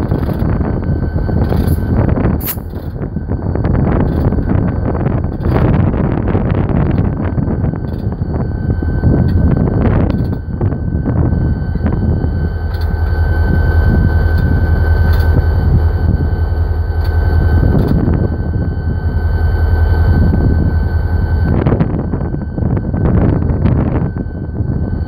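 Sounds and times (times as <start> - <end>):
diesel locomotive engine drone: 0.0 - 25.0
high whine: 0.0 - 25.0.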